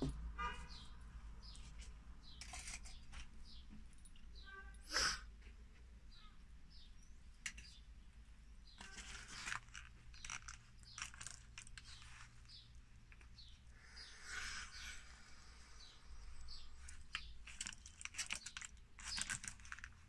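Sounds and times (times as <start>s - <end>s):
birds chirping: 0.0s - 4.7s, 6.1s - 19.7s.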